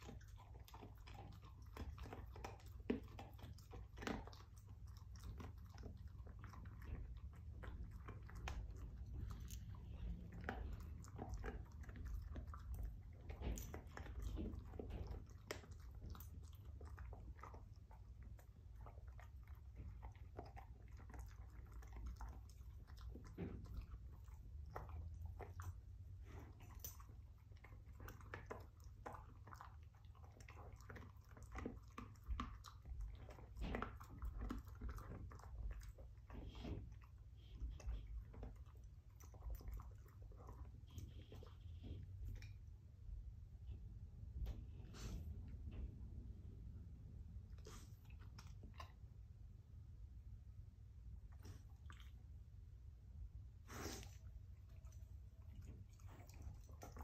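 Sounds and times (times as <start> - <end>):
dog chewing a bone: 0.0 - 43.0, 53.8 - 57.0.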